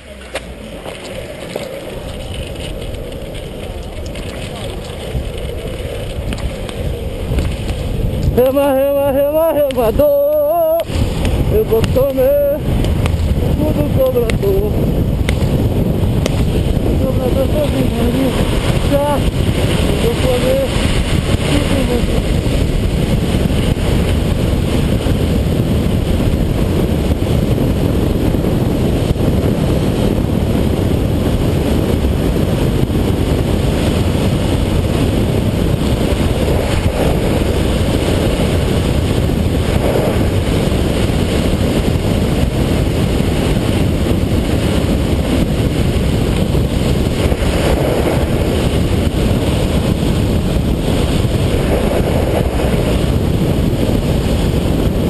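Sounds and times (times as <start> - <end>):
skateboard wheels rumbling on asphalt: 0.0 - 55.0
wind buffeting microphone: 0.0 - 55.0.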